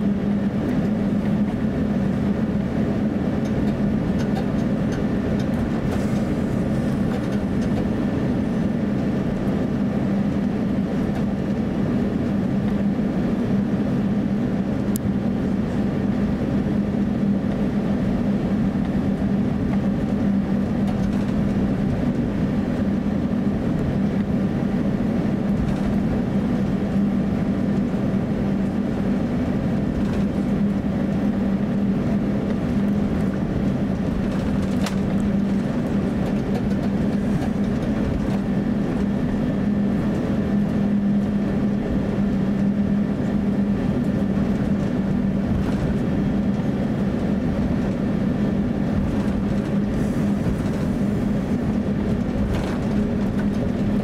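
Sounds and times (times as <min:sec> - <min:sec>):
aircraft cabin engine hum: 0:00.0 - 0:54.0.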